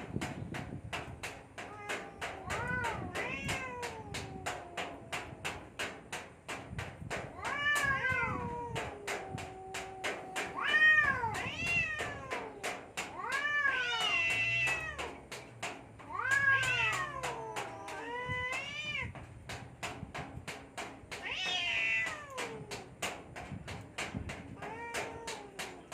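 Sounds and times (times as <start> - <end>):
cats yowling: 1.2 - 19.6, 21.1 - 23.2, 24.4 - 25.9.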